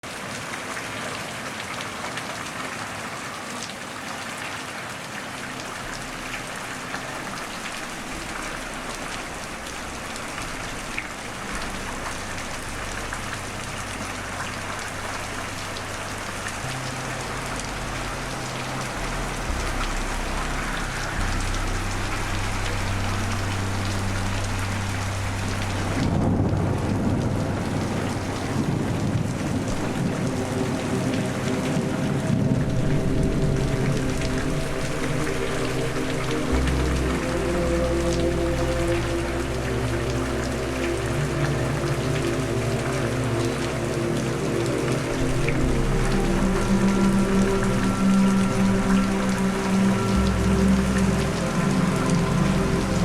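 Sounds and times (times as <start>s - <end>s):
rain drops pattering: 0.0s - 53.0s
low rumble: 5.7s - 53.0s.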